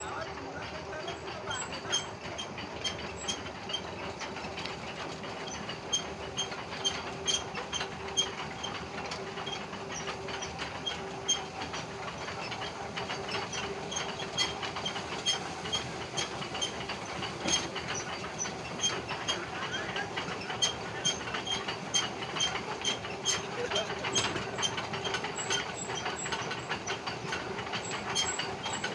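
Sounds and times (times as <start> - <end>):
conveyor belt humming: 0.0 - 28.9.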